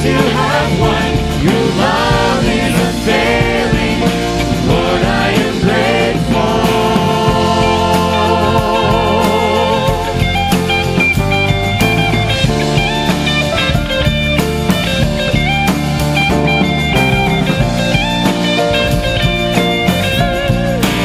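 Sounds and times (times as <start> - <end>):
guitar: 0.0 - 21.0
keyboard: 0.0 - 21.0
steady drum beat: 0.0 - 21.0.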